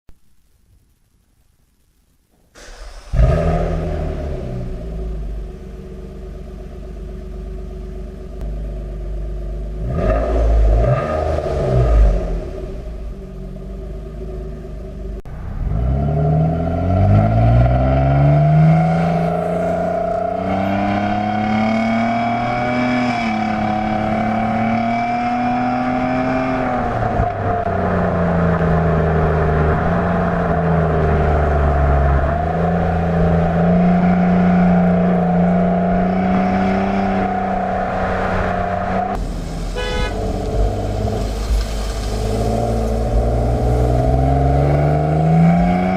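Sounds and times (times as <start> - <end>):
car exhaust idling and revving: 2.6 - 45.9
car pulling away: 2.6 - 45.9.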